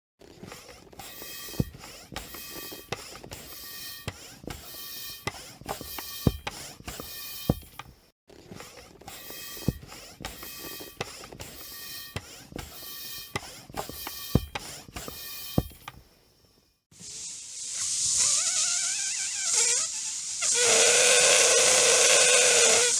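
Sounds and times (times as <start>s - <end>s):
balloon being inflated with pump: 0.2s - 16.3s, 17.0s - 22.9s.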